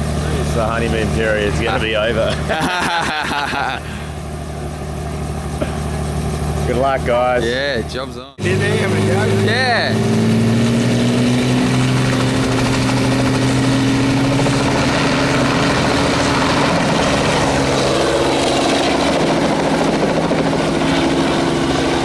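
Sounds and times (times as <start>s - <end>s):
helicopter turbine and rotor: 0.0s - 22.0s.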